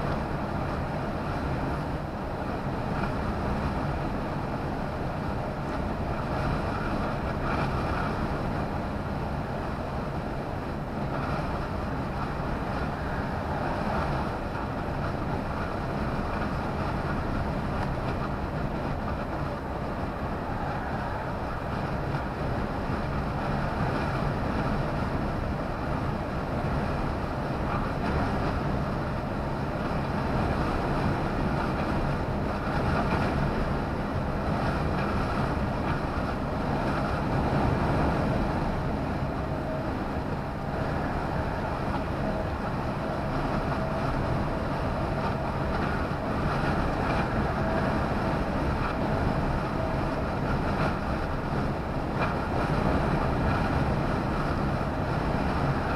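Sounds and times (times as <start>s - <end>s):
lorry engine and road noise: 0.0s - 55.9s.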